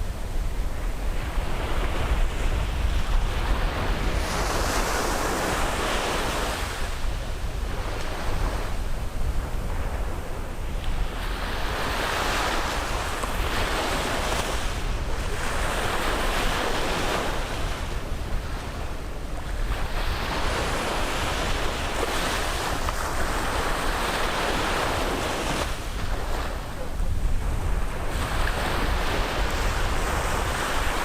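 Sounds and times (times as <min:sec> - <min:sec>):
sea surf washing onto beach: 0:00.0 - 0:31.0
wind rumble on microphone: 0:00.0 - 0:31.0.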